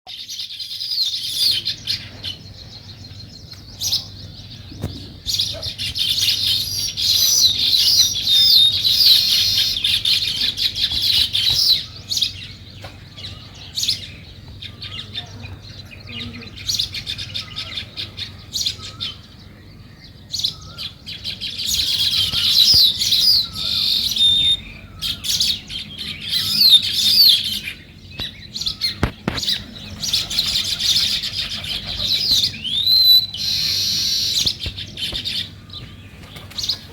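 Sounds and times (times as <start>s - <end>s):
sparrows chirping: 0.1s - 36.9s.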